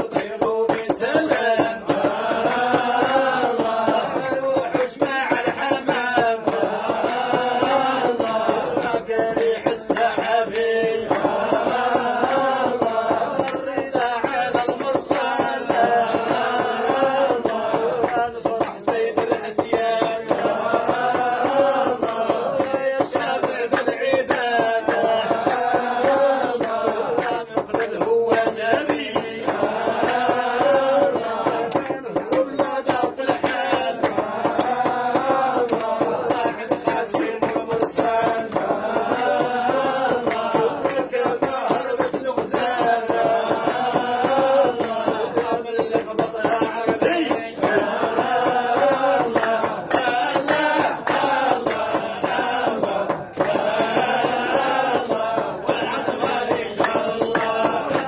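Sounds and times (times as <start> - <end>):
men chanting together: 0.0 - 58.0.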